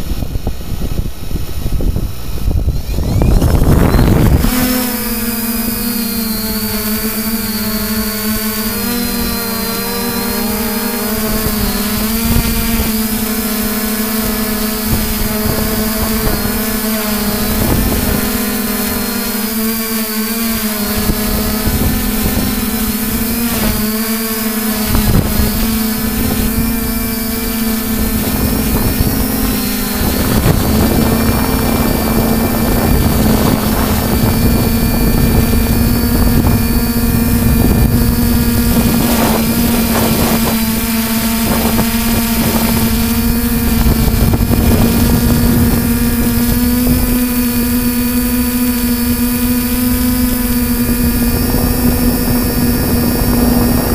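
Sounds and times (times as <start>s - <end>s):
quadcopter motors whining: 0.0s - 53.9s
wind rumble on microphone: 0.0s - 53.9s.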